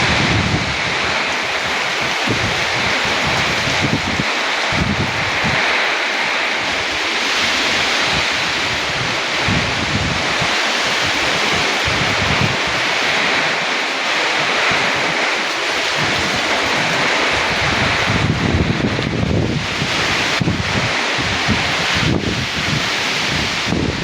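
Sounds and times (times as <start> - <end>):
wind and rain hissing: 0.0 - 24.0
wind buffeting microphone: 0.0 - 24.0.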